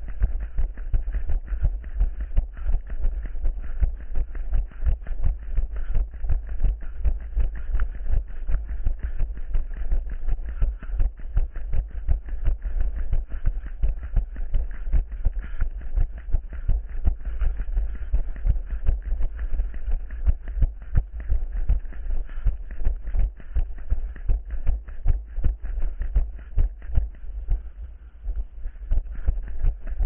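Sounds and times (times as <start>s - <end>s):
constant low rumble: 0.0s - 30.0s
running footsteps: 0.0s - 30.0s.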